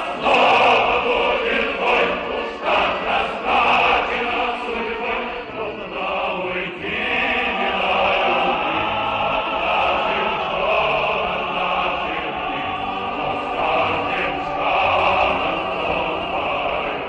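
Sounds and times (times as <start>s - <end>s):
choir singing: 0.0s - 17.0s.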